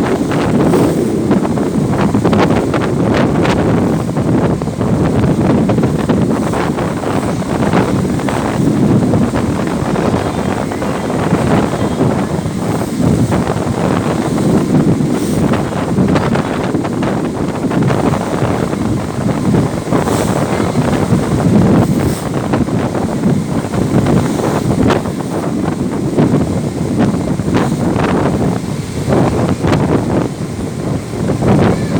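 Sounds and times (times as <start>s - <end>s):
shirt flapping in wind: 0.0s - 31.9s
wind buffeting microphone: 0.0s - 31.9s.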